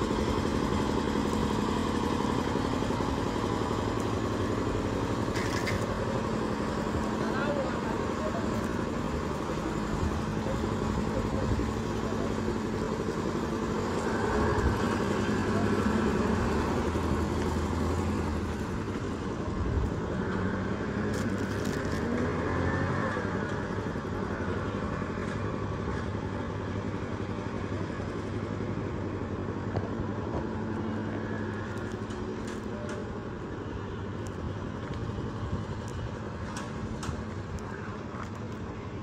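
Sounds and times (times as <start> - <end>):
vehicle engine humming: 0.0 - 39.0.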